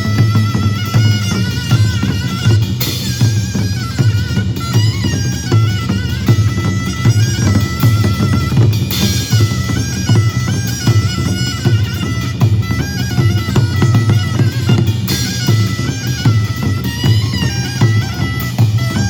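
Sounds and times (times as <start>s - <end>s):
shrill shawm melody: 0.0s - 19.0s
steady drum beats: 0.0s - 19.0s.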